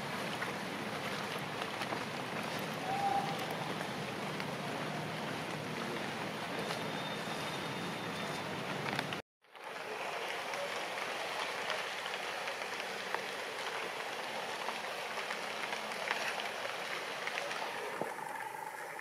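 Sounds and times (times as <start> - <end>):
rain hiss: 0.0 - 19.0
raindrop ticks: 0.2 - 6.9, 10.1 - 19.0.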